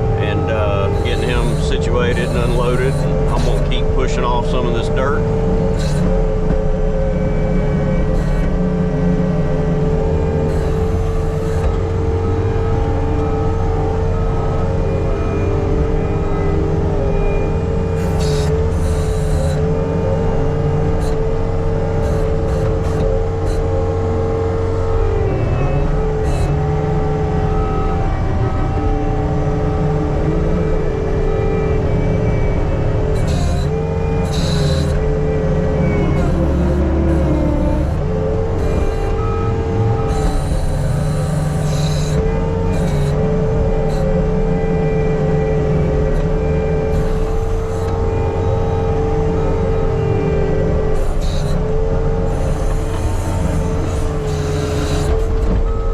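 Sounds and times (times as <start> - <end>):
diesel engine running under load: 0.0 - 55.9
hydraulic whine: 0.0 - 55.9.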